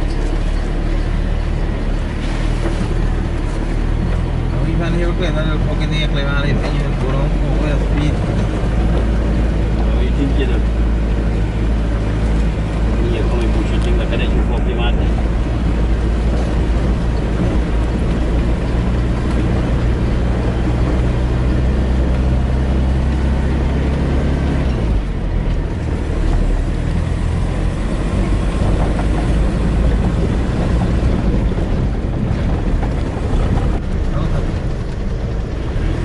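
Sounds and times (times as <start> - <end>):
car engine running: 0.0 - 36.0
tyres on dirt road: 0.0 - 36.0.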